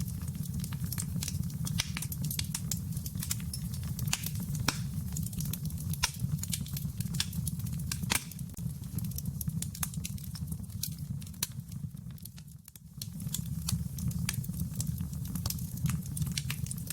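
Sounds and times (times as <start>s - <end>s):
low fire rumble: 0.0s - 16.9s
wood fire crackling: 0.0s - 16.9s.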